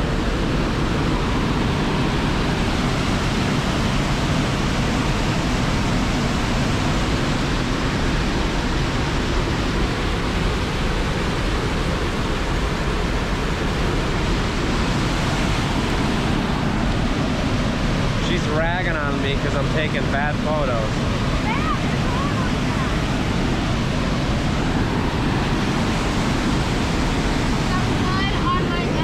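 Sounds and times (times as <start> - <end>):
whitewater rushing: 0.0 - 29.0.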